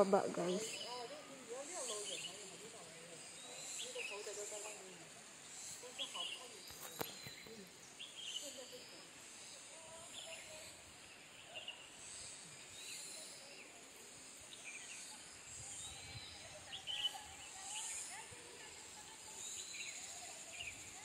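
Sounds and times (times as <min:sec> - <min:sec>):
insect hiss: 0:00.0 - 0:21.0.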